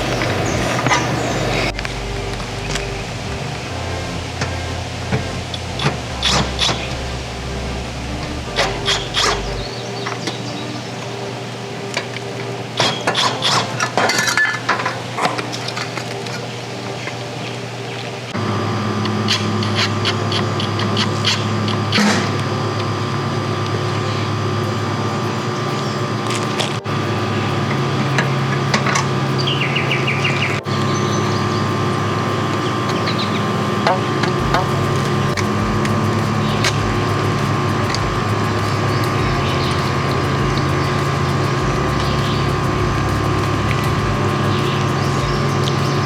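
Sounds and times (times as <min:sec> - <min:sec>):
steady low hum: 0:00.0 - 0:12.7, 0:18.3 - 0:46.0.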